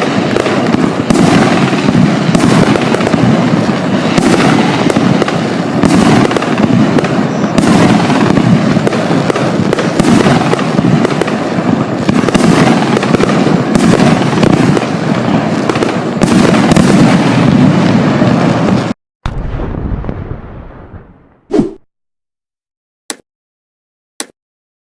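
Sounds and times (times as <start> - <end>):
fireworks sharp reports: 0.0 - 21.5.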